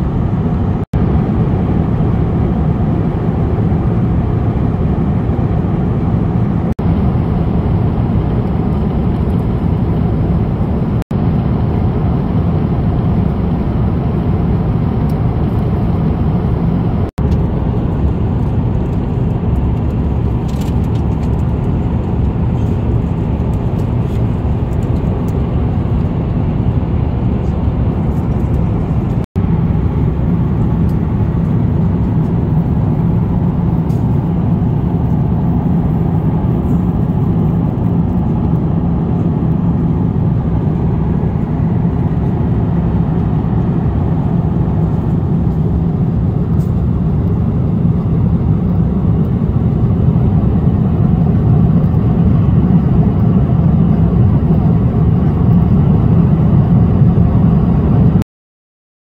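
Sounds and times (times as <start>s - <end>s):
airliner cabin engine rush: 0.0s - 58.2s.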